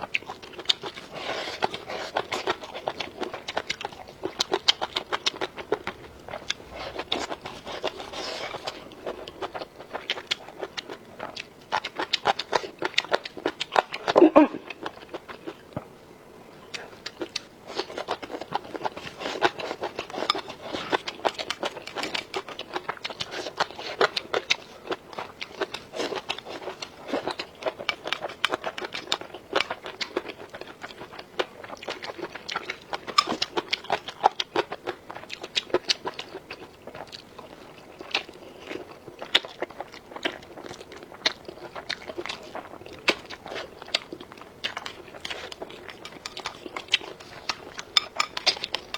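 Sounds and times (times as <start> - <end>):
crisp chewing and crunching: 0.0 - 15.9, 16.6 - 48.9.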